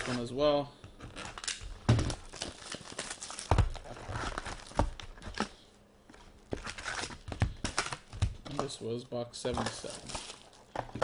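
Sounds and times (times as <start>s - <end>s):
foil packs crinkling: 0.0s - 8.8s, 9.4s - 11.0s.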